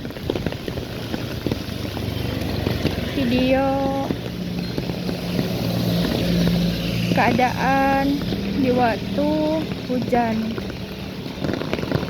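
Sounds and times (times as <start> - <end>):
steady rain: 0.0 - 12.0
vehicle engine humming: 0.0 - 12.0.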